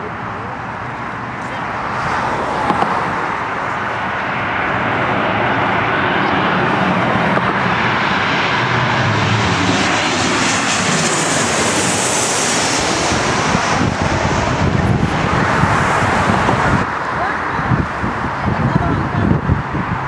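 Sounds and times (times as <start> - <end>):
aircraft engines rushing: 0.0 - 20.0
high engine whine: 0.0 - 20.0.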